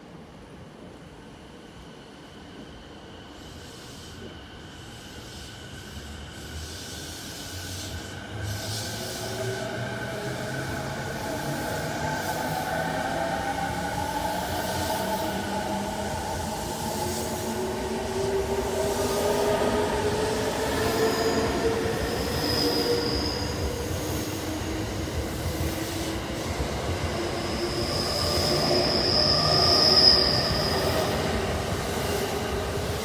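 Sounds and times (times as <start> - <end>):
high steady squeal: 3.5 - 33.0.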